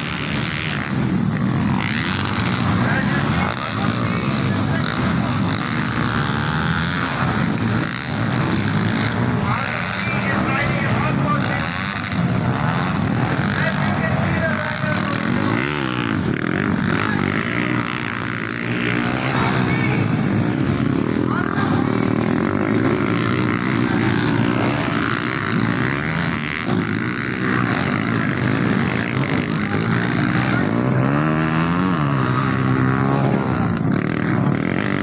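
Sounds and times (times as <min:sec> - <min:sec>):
racing motorcycle engines revving: 0:00.0 - 0:35.0.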